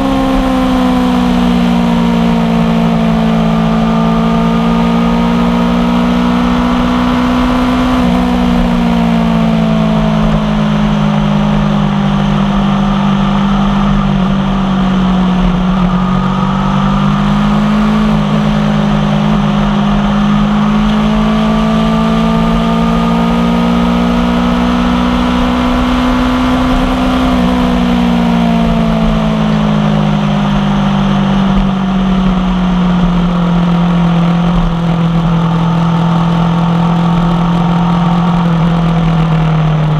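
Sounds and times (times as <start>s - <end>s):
motorcycle engine at speed: 0.0s - 39.9s
wind and road noise: 0.0s - 39.9s.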